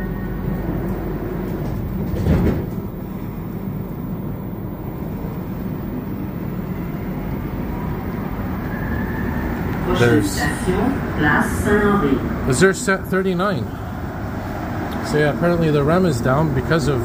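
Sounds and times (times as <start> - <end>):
train rumble: 0.0 - 17.0
train running noise: 0.0 - 17.0.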